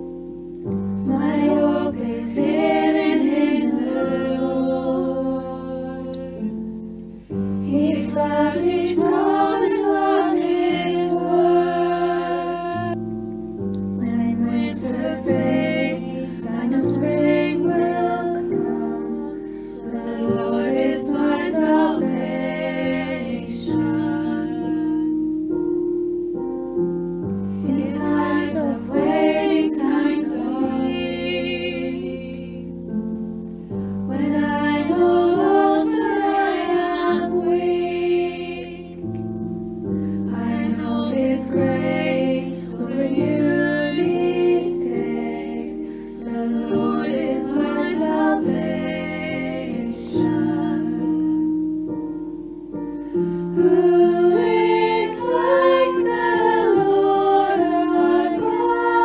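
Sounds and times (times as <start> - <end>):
instrumental accompaniment: 0.0 - 59.0
people singing a hymn: 0.9 - 13.1, 14.0 - 25.6, 27.4 - 33.0, 33.6 - 52.0, 52.6 - 59.0.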